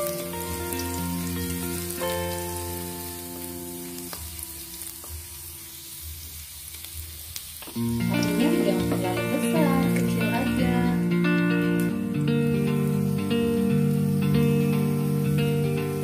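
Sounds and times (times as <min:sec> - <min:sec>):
garlic sizzling in oil: 0:00.0 - 0:16.0
soft background music: 0:00.0 - 0:16.0.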